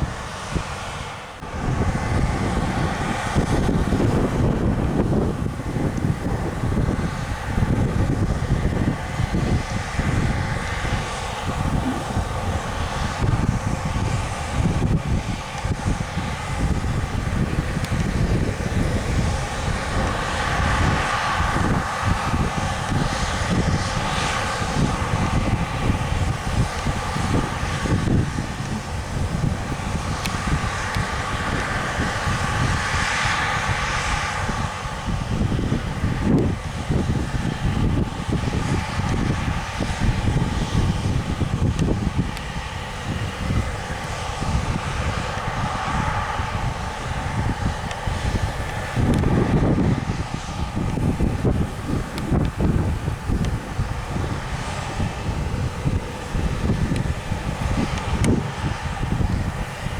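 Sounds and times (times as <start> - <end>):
combine harvester droning: 0.0 - 59.9
wind on microphone: 0.0 - 59.9.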